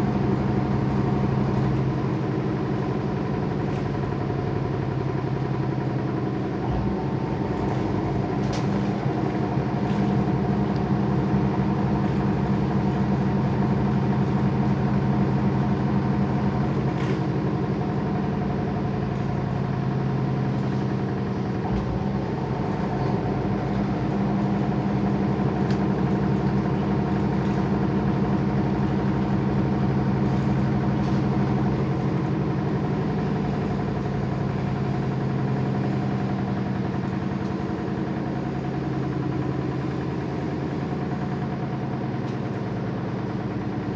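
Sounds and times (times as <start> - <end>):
washing machine motor hum: 0.2 - 43.9.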